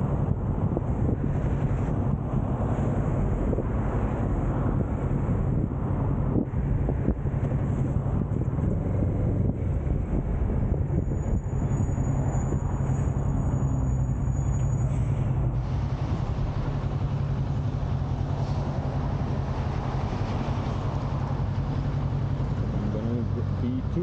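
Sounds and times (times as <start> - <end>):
wind noise on microphone: 0.0 - 22.6.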